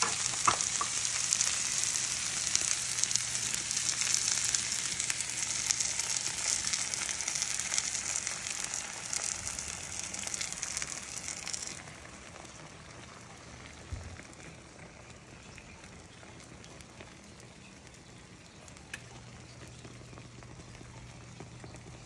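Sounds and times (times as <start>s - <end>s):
omelette sizzling in frying pan: 0.0s - 22.0s.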